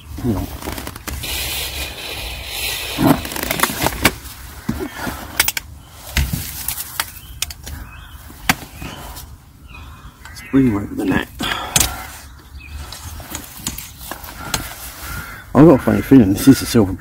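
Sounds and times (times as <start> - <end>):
rustling: 0.0 - 10.0, 11.7 - 15.4.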